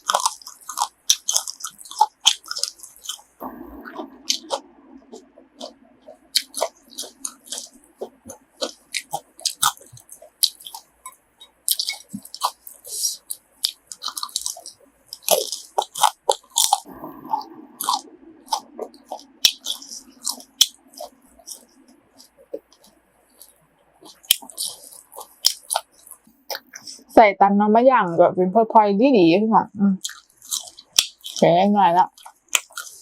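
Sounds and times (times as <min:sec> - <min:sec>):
chewing and crunching: 0:00.0 - 0:27.2, 0:30.0 - 0:33.0.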